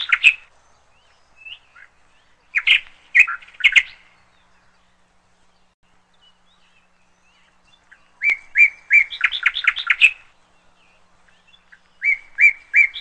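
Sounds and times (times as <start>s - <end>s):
small songbird chirping: 0.0s - 13.0s.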